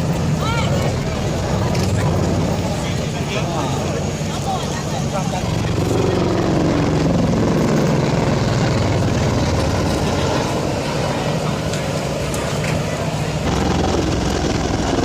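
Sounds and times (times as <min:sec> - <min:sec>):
helicopter turbines and rotors droning: 0:00.0 - 0:15.0.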